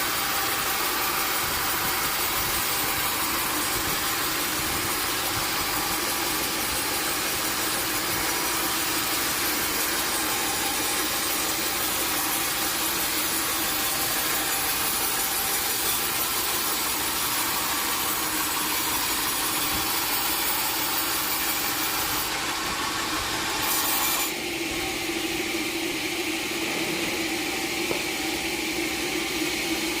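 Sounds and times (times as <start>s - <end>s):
saw cutting through log: 0.0s - 30.0s.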